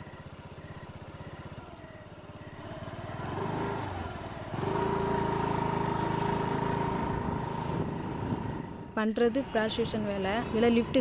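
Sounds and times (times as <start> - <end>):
motor scooter accelerating: 0.0 - 11.0.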